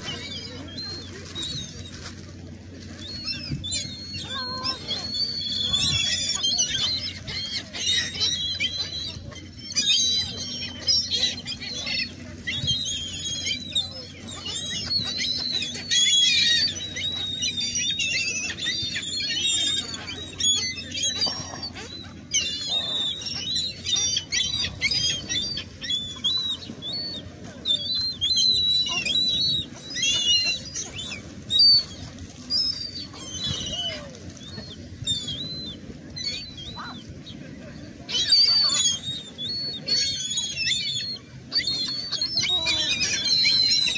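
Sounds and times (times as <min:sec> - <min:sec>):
seagulls calling: 0:00.0 - 0:43.9.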